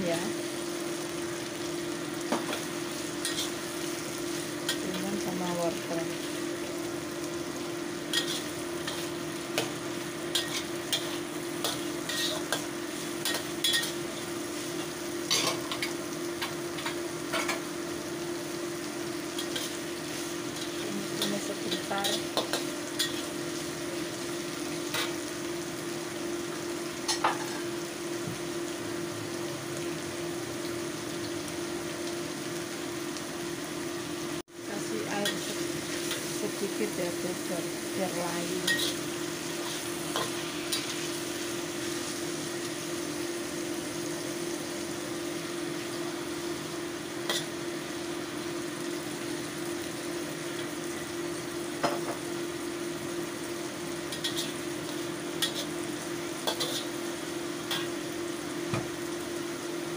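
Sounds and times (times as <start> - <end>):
vegetables sizzling in a wok: 0.0 - 59.9.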